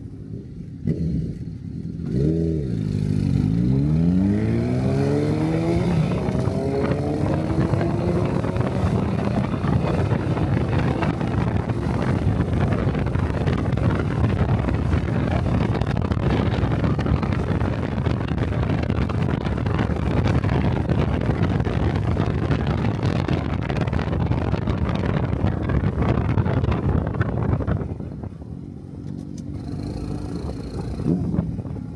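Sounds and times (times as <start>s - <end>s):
motorcycle engine cruising: 0.0s - 31.9s
wind rushing over microphone: 1.9s - 31.9s.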